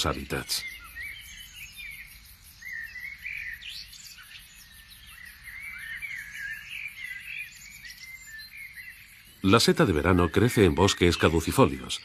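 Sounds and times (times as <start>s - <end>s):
birds chirping and singing: 0.0s - 12.0s.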